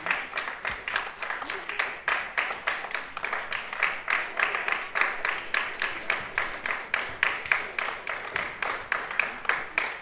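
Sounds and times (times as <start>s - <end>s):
audience applauding rhythmically: 0.0s - 10.0s.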